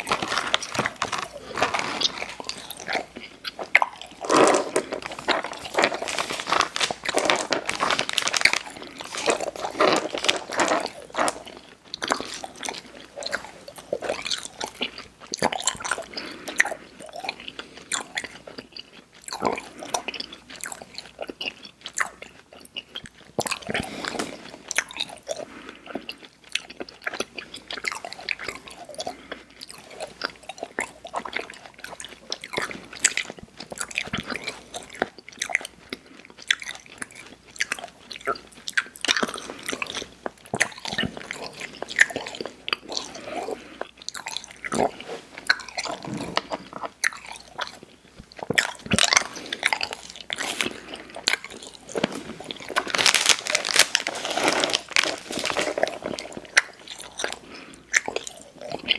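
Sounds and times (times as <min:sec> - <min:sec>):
chewing sticky candy: 0:00.0 - 0:58.9.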